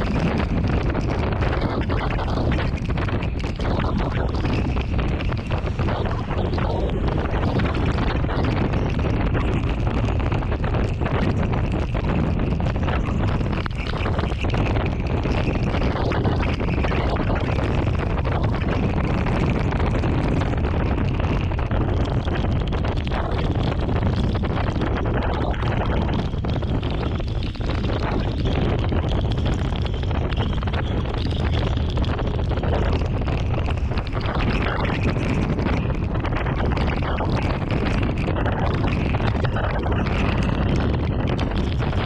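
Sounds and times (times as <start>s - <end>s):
strong wind blowing across microphone: 0.0s - 42.0s.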